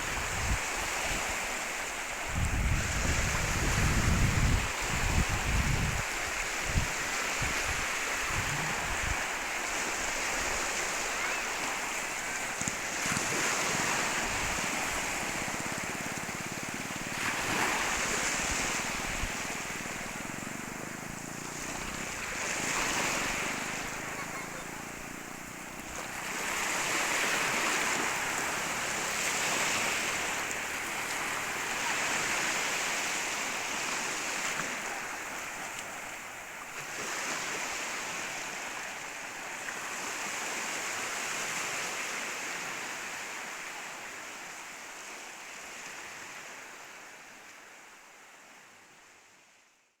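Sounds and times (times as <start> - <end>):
sea waves breaking on beach: 0.0 - 49.1.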